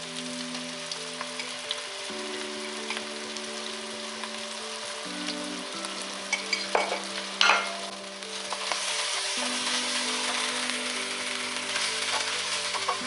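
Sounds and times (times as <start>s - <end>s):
onions sizzling in oil: 0.0s - 13.0s
soft background music: 0.0s - 13.0s.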